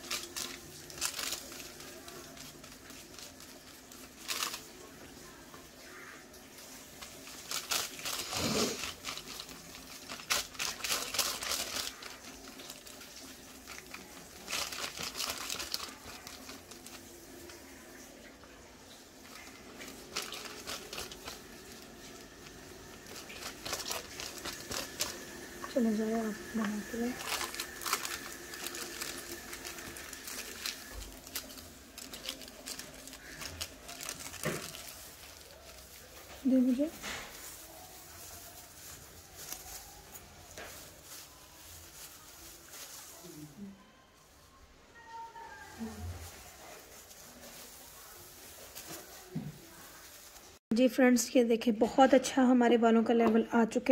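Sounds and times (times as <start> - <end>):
foil crinkling: 0.0 - 44.4, 45.0 - 50.6
plastic gloves rustling: 0.0 - 53.9.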